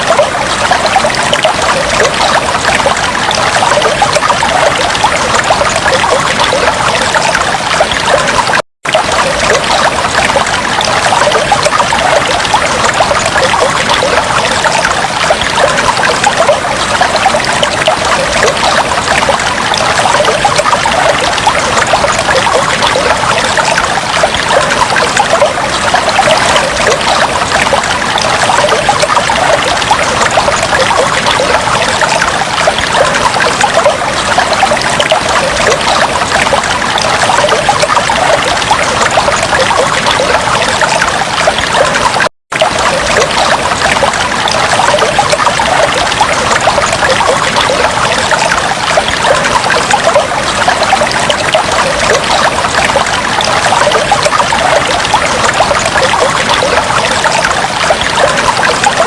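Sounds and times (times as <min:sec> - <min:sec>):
aquarium water trickling and bubbling: 0:00.0 - 0:59.0.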